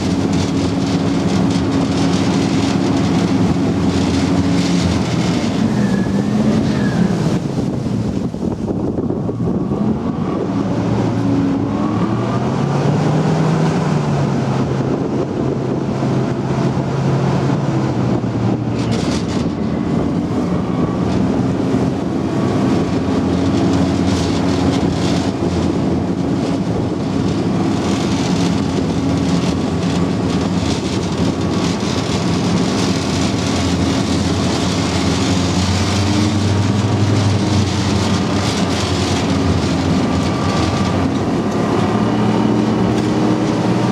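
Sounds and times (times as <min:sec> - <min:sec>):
vehicle engine running: 0:00.0 - 0:17.0, 0:17.7 - 0:43.9.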